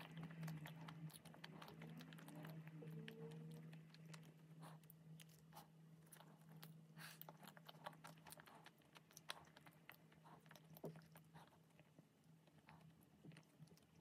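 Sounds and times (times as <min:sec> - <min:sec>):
chewing and biting chocolate: 0:00.0 - 0:14.0
faint low hum: 0:00.0 - 0:14.0.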